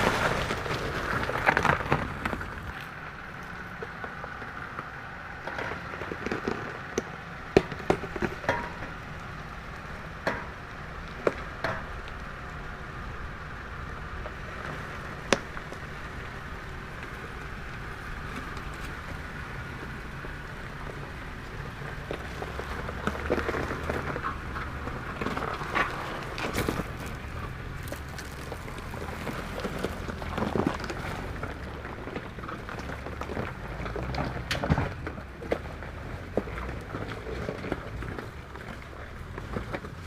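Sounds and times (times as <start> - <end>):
engine running low and steady: 0.0 - 40.0
tyres crunching on stones: 0.0 - 40.0.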